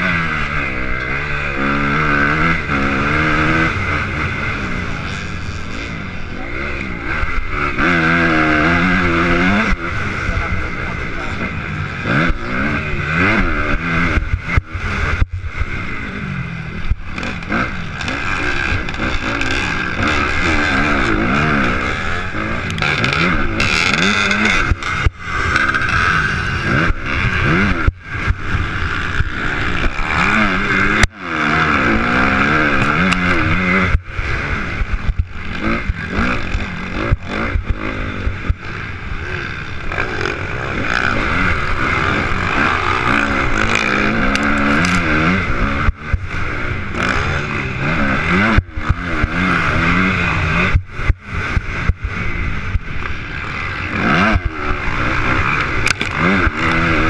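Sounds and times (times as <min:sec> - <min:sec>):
motocross bike engine revving: 0:00.0 - 0:57.0
other motorbikes: 0:00.0 - 0:57.0.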